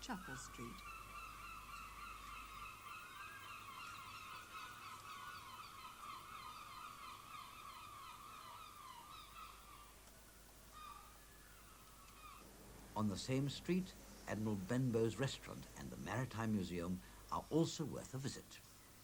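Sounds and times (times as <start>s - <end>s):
gulls calling: 0.0s - 10.0s, 10.6s - 18.4s.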